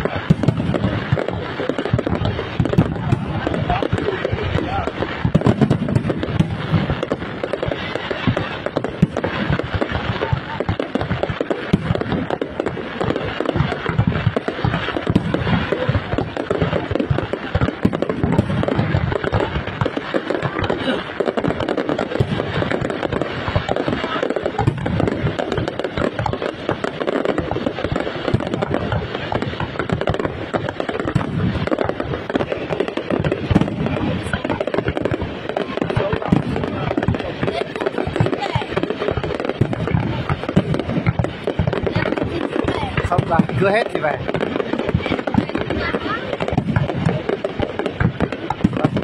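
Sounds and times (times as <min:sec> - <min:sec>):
fireworks bursting: 0:00.0 - 0:49.0.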